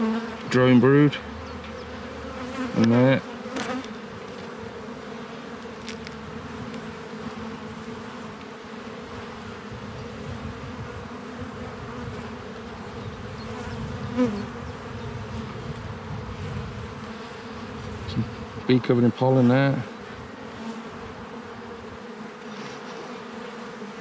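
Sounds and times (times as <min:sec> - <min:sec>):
honeybees humming: 0:00.0 - 0:24.0.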